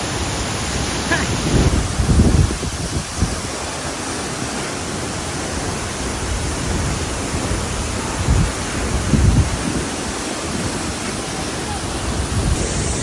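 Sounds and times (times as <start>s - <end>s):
waterfall roaring: 0.0s - 13.0s
wind rumble on microphone: 0.9s - 13.0s.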